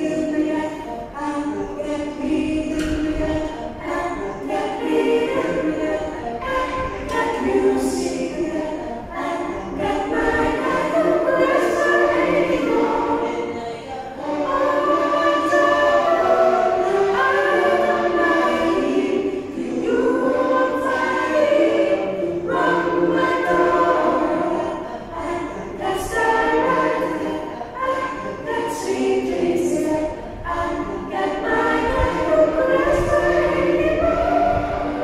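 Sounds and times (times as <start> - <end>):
women singing a cappella: 0.0 - 35.0.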